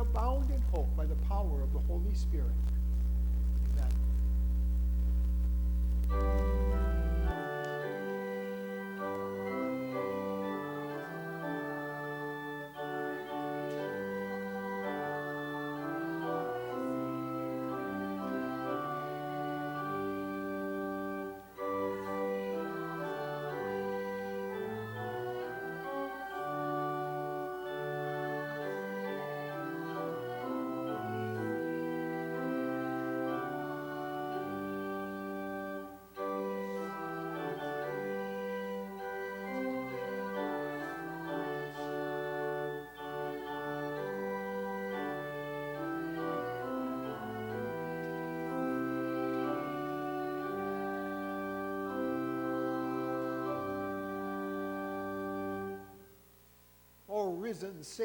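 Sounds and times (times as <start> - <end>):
organ playing sustained chords: 0.0 - 56.3.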